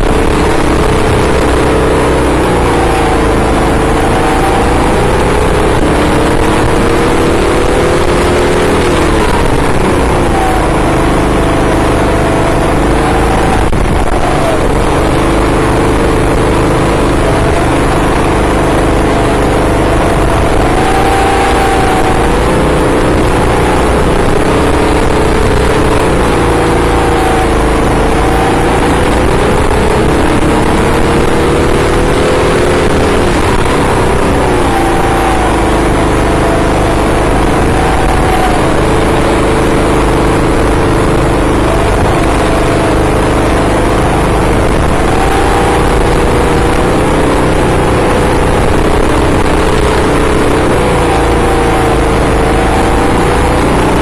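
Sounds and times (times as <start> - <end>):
racing kart engines: 0.0 - 54.0.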